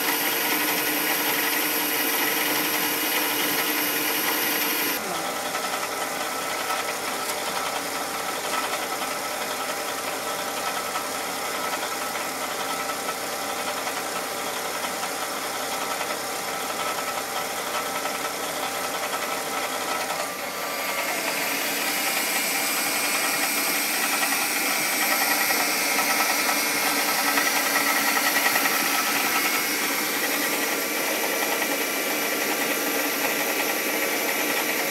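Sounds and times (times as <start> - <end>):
car engine idling with knocking: 0.0 - 34.9.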